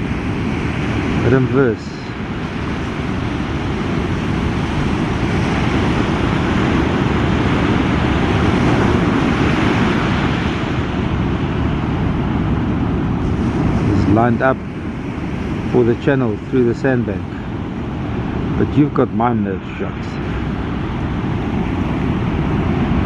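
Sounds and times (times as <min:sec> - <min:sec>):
breaking surf: 0:00.0 - 0:23.0
wind buffeting microphone: 0:00.0 - 0:23.0.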